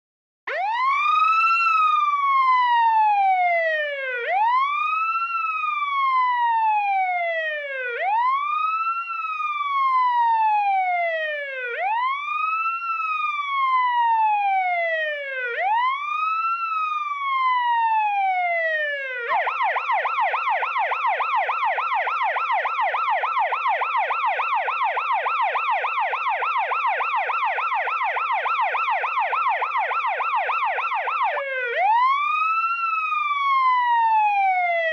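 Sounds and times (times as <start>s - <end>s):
police siren fast yelp: 0.5s - 34.9s
police siren wailing: 0.5s - 34.9s.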